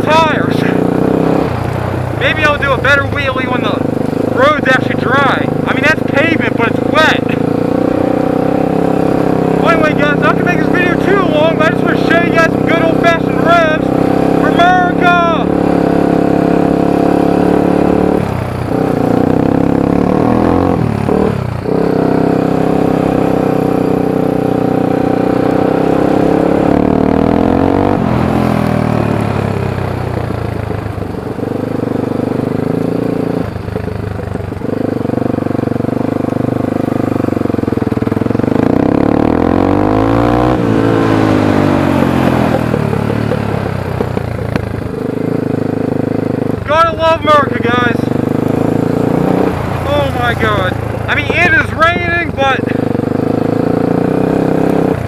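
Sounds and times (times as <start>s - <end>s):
atv engine revving hard: 0.0s - 55.0s.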